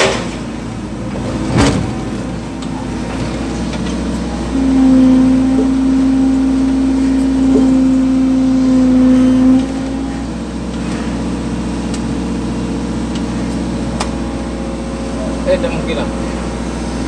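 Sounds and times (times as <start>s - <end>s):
excavator engine and hydraulics: 0.0s - 17.0s.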